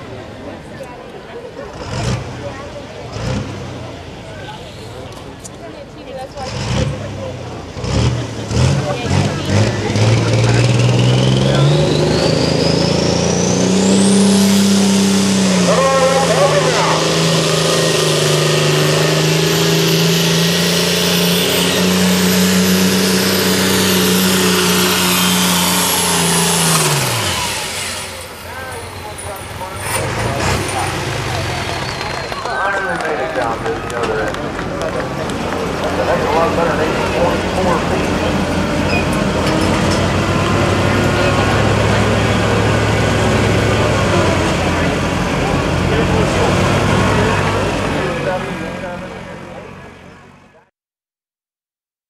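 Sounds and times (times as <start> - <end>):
diesel tractor engine under load: 0.0 - 50.6.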